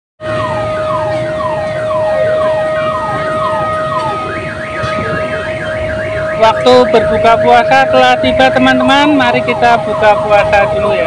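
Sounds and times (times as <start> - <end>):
electronic siren: 0.2 - 11.0.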